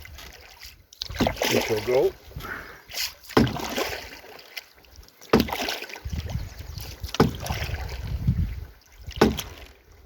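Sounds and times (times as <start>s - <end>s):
canoe hull dragging: 0.0s - 10.0s
paddle strokes in water: 0.0s - 10.0s.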